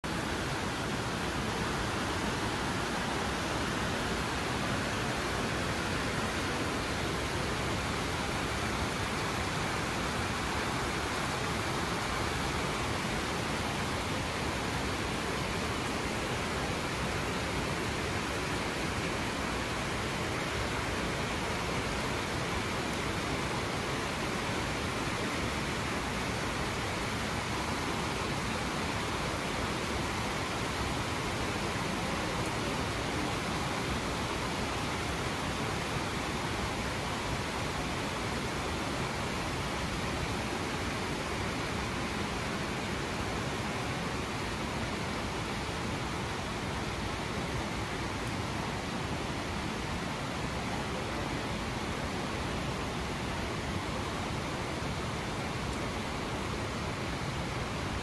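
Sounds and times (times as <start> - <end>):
floodwater rushing: 0.0 - 58.0
heavy rain: 0.0 - 58.0.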